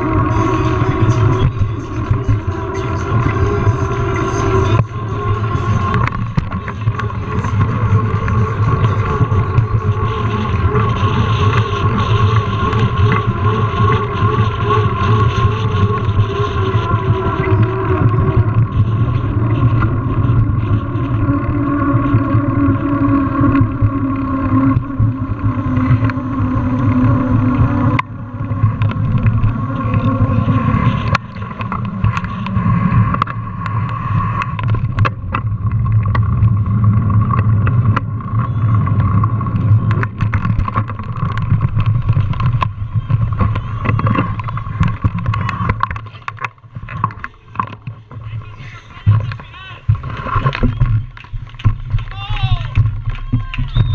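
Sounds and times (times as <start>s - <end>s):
bike rolling over pavement: 0.0s - 53.9s
wind on microphone: 0.0s - 53.9s.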